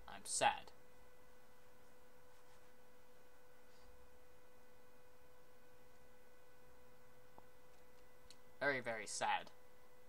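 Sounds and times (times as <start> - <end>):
background hiss: 0.0 - 10.0
electrical whine: 0.0 - 10.0.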